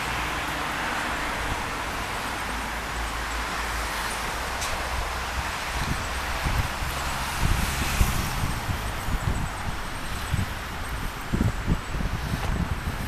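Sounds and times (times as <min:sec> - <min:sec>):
distant road traffic: 0:00.0 - 0:13.0
low wind rumble on microphone: 0:00.0 - 0:13.0.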